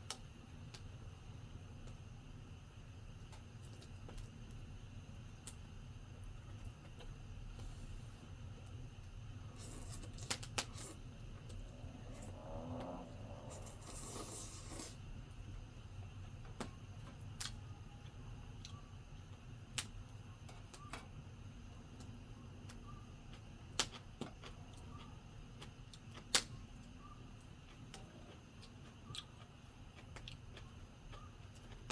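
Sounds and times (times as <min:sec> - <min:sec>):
faint low hum: 0:00.0 - 0:31.9.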